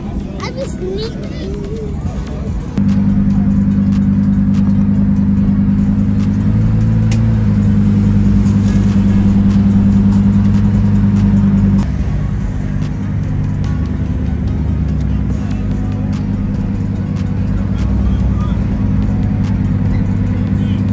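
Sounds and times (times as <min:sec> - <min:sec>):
car low drone: 0:00.0 - 0:20.9.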